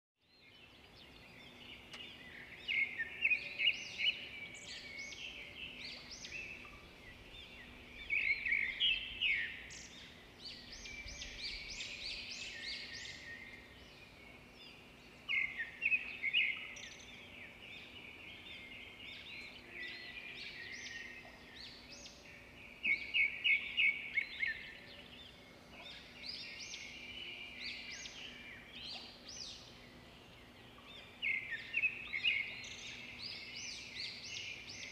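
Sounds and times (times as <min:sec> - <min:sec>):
small birds chirping and singing: 0:00.2 - 0:34.9.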